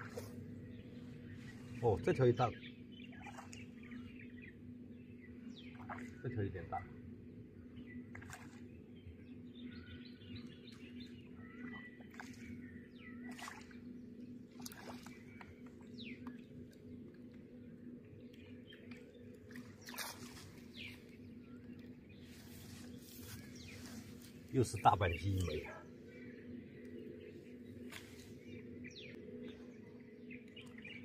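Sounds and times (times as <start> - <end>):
low background hum: 0.0 - 31.0
small birds chirping: 0.0 - 31.0.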